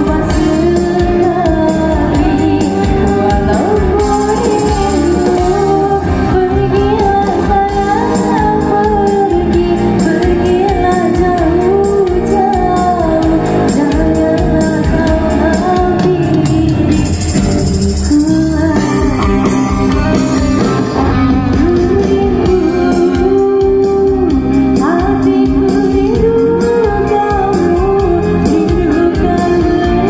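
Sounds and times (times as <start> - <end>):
drums: 0.0 - 30.0
guitar: 0.0 - 30.0
woman singing pop ballad: 0.0 - 30.0.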